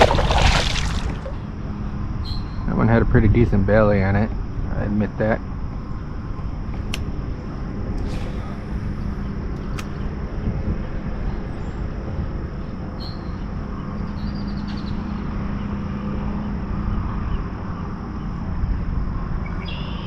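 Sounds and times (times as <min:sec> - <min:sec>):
wind buffeting microphone: 0:02.7 - 0:19.5.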